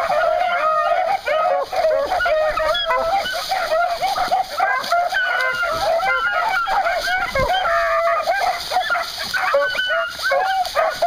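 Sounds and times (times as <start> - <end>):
pack of hounds baying: 0.0 - 11.0.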